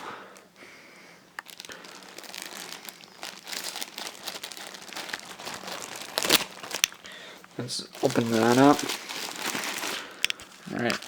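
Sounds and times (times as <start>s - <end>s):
packaging crinkling: 1.3s - 11.0s.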